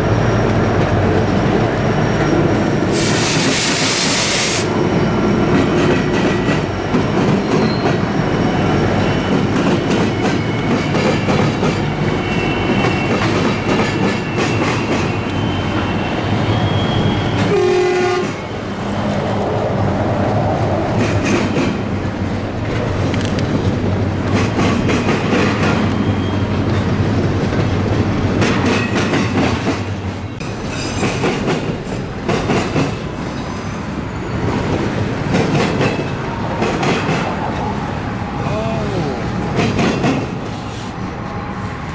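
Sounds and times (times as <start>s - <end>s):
train wheels clattering over rails: 0.4s - 38.4s, 39.3s - 41.9s.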